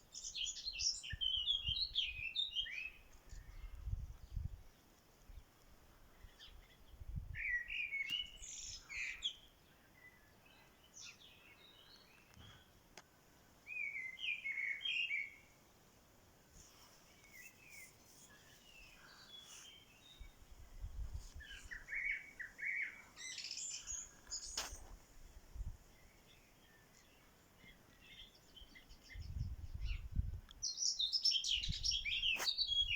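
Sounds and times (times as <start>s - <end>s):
small birds chirping: 0.0s - 12.8s, 13.6s - 15.6s, 16.5s - 32.9s.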